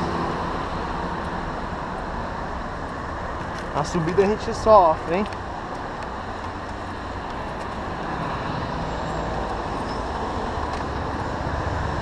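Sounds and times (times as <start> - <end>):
traffic rushing: 0.0 - 12.0.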